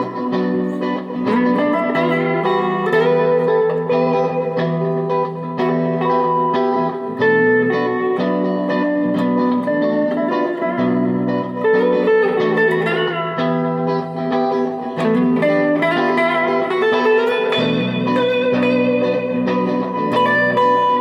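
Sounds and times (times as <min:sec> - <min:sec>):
electric guitar notes and chords: 0:00.0 - 0:21.0.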